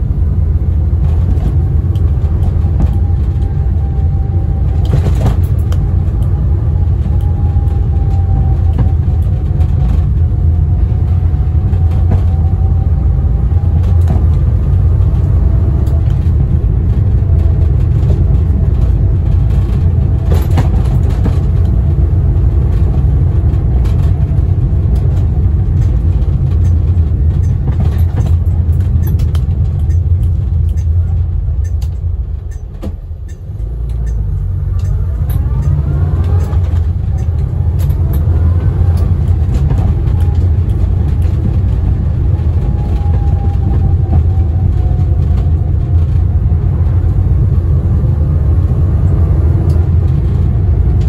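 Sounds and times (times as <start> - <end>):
faint gearbox whine: 0.0 - 47.1
car engine low drone: 0.0 - 51.0.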